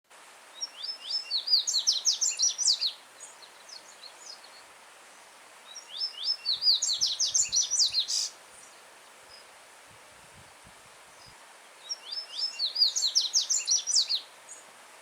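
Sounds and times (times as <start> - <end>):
stream running: 0.1 - 15.0.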